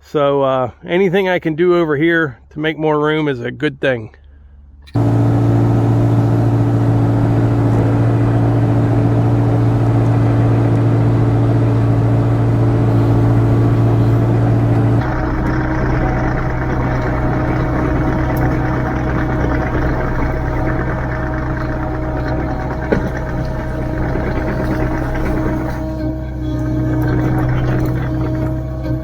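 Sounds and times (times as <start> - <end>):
excavator diesel engine running: 4.9 - 29.0.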